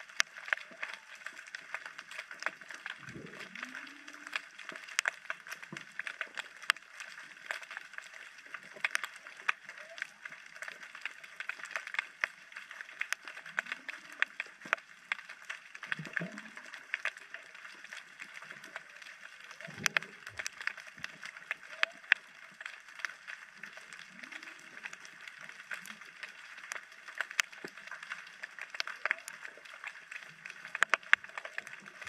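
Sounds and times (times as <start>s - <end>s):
underwater clicks and snaps: 0.0s - 32.0s.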